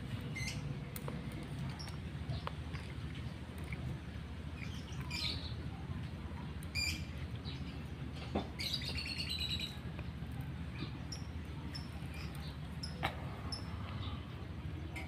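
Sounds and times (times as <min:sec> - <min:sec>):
steady low background hum: 0:00.0 - 0:15.0
small birds chirping: 0:00.1 - 0:15.0.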